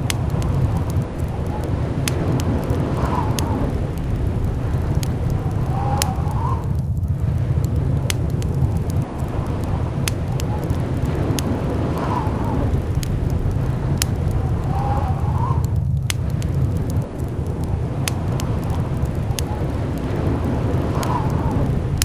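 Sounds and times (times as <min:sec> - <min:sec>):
sharp clicks: 0:00.0 - 0:12.1, 0:12.9 - 0:14.9, 0:15.5 - 0:21.4
blizzard wind rumbling: 0:00.0 - 0:22.0
faint whistling wind: 0:00.0 - 0:22.0.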